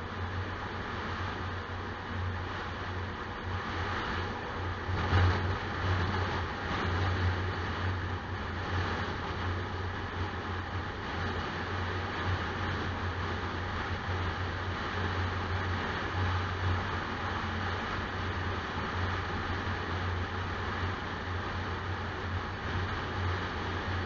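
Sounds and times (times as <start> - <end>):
car engine and tyre drone: 0.0 - 24.0.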